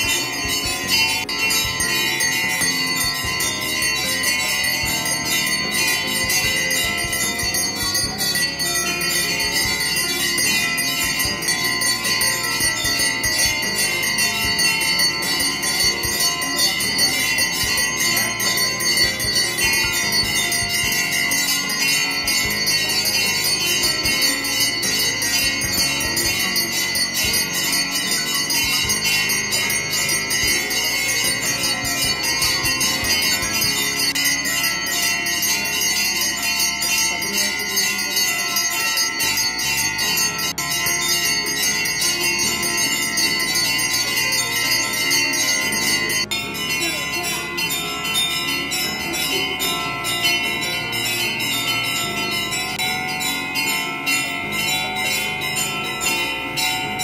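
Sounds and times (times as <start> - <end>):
temple bells ringing rapidly: 0.0 - 57.0.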